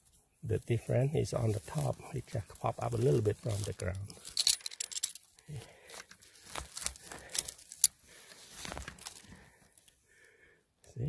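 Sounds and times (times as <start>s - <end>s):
crackling of dry needles and twigs: 0.0s - 4.3s, 5.3s - 10.0s.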